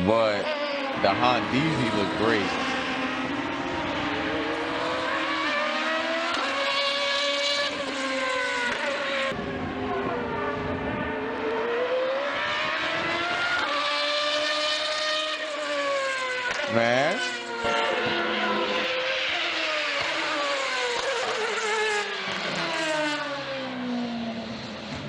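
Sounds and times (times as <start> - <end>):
race car engine at high revs: 0.0 - 25.0.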